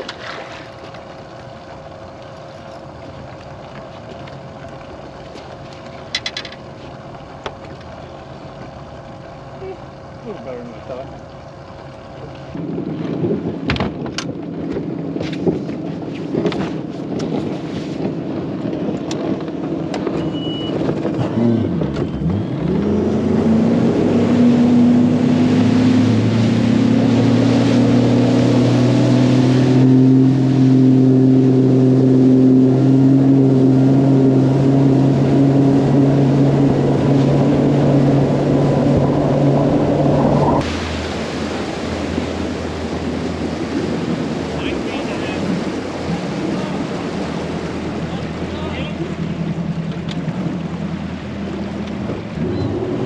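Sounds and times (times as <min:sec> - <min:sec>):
water rushing: 0:00.0 - 0:13.7, 0:16.8 - 0:53.0
outboard motor running: 0:00.0 - 0:53.0.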